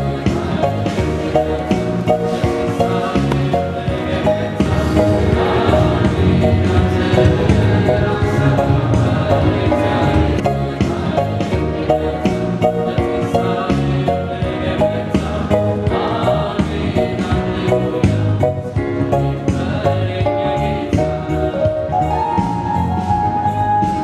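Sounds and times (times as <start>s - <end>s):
voices singing: 0.0s - 23.0s
electronic keyboard playing: 0.0s - 24.0s.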